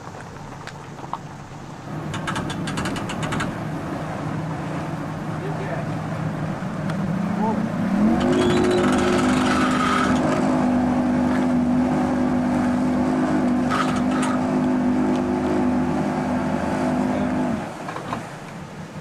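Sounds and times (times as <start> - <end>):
boat motor running: 1.2 - 19.0.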